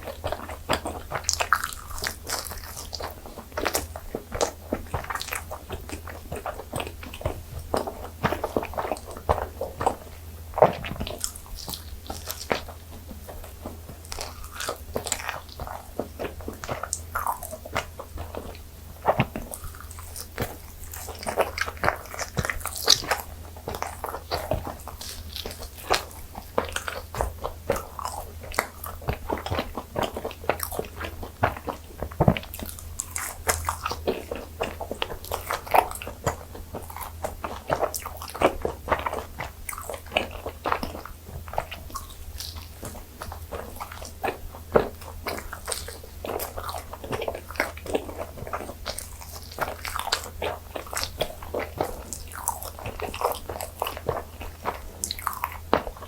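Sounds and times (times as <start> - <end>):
biting and chewing rice cakes: 0.0 - 56.0.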